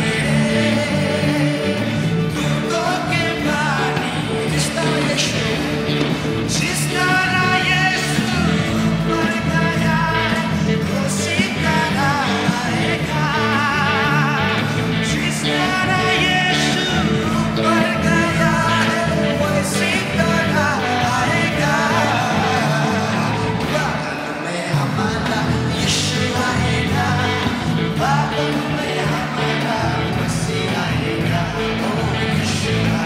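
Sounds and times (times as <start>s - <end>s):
drum kit: 0.0s - 33.0s
electric guitar: 0.0s - 33.0s
keyboards: 0.0s - 33.0s
person singing with vibrato: 0.0s - 33.0s.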